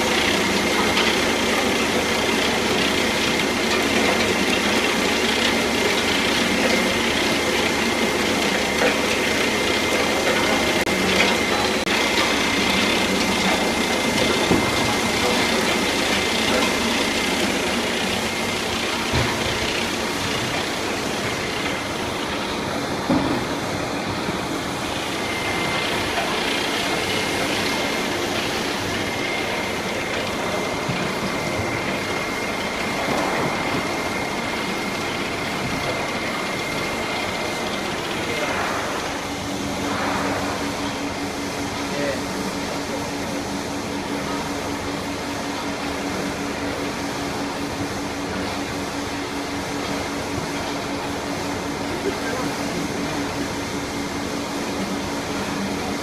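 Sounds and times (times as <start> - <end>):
conveyor machinery din: 0.0 - 56.0
high machine whine: 0.0 - 56.0.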